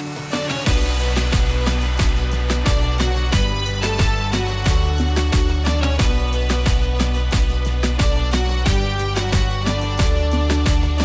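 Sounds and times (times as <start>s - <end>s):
background music with steady beat: 0.0s - 11.0s
low held bass notes: 0.7s - 11.0s.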